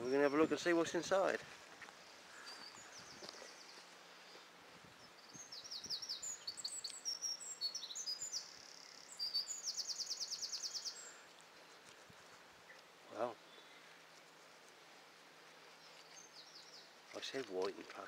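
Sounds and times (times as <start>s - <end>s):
songbird singing: 0.0s - 12.0s, 12.6s - 18.0s.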